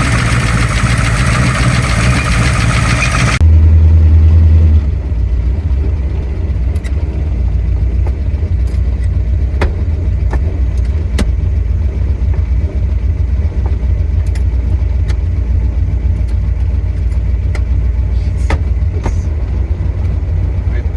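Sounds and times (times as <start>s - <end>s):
pickup engine idling: 0.0s - 20.9s.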